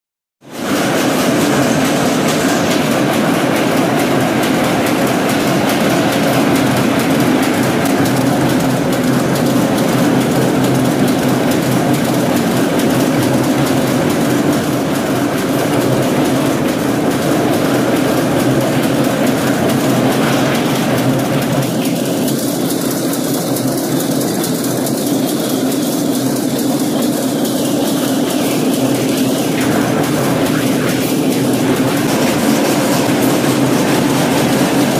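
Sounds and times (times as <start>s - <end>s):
loom mechanical clatter: 0.4s - 34.9s.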